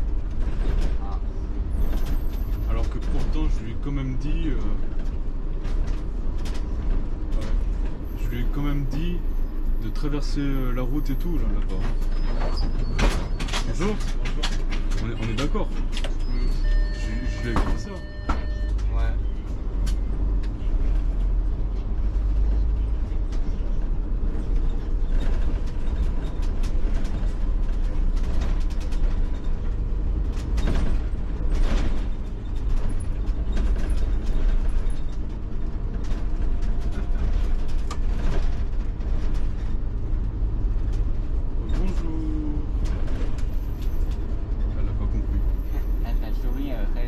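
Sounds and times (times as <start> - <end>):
body rattles clicks and creaks: 0.0 - 45.8
bus engine and road rumble: 0.0 - 47.0.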